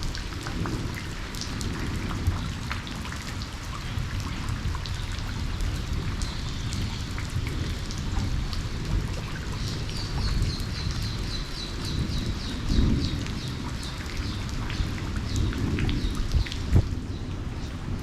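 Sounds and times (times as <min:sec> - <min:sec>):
rain on puddles and leaves: 0:00.0 - 0:18.0.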